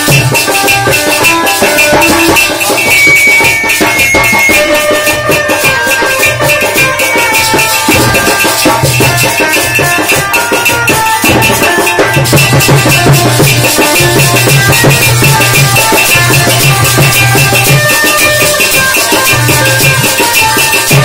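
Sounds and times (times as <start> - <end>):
amplified music with held notes: 0.0 - 21.0
shaker-like percussion: 0.0 - 21.0.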